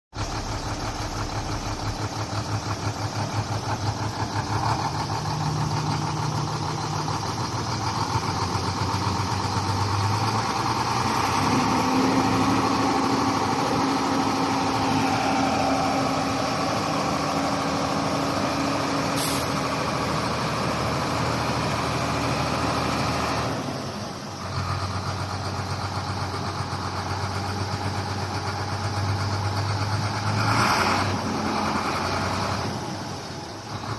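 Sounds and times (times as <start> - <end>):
diesel truck engine revving: 0.2 - 33.9.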